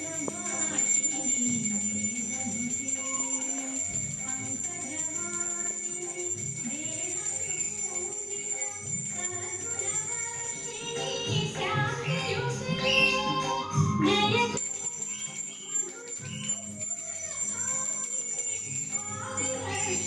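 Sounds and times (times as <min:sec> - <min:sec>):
music with high ringing tones: 0:00.0 - 0:20.0.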